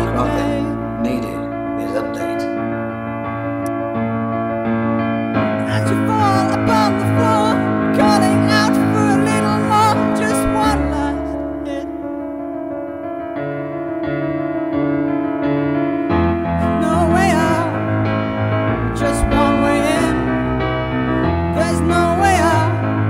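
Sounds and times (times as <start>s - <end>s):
deep bass: 0.0s - 12.6s, 16.5s - 23.0s
piano sustained chords: 0.0s - 23.0s.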